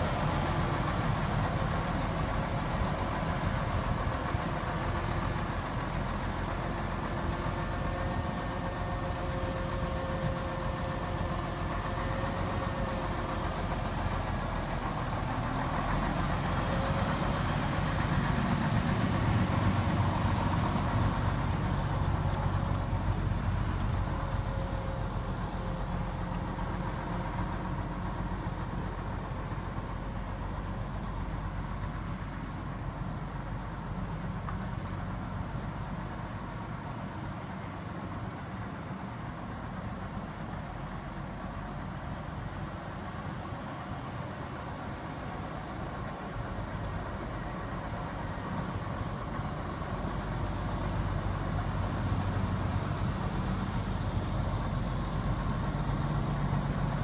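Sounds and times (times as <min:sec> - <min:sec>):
fire engine driving past: 0:00.0 - 0:57.0.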